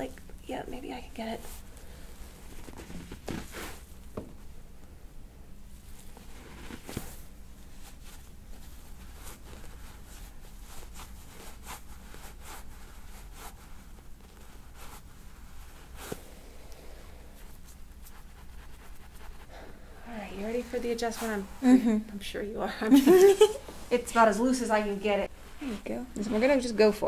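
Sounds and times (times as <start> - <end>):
steady low hum: 0.0 - 27.0
fabric rustling: 1.3 - 4.6, 5.7 - 22.0, 23.0 - 27.0.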